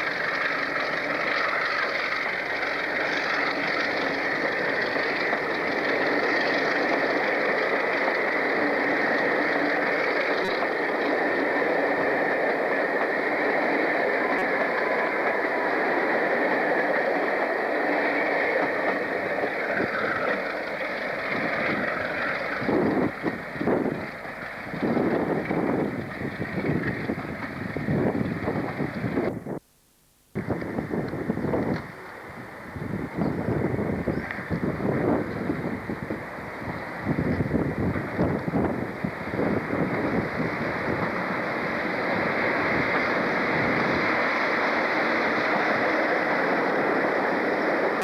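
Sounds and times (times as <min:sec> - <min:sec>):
train running: 0:00.0 - 0:29.6, 0:30.4 - 0:48.0
wind buffeting microphone: 0:00.0 - 0:29.6, 0:30.4 - 0:48.0.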